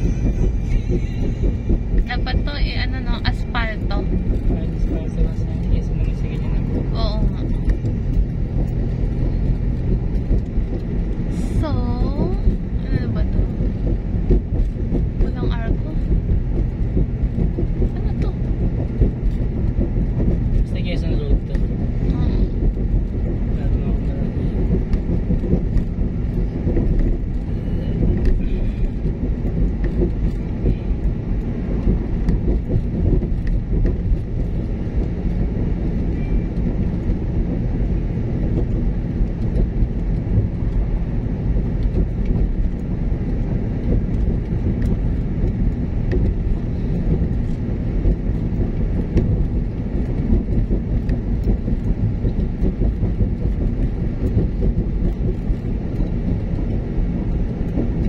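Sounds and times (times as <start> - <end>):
car driving on paved road: 0.0 - 58.0.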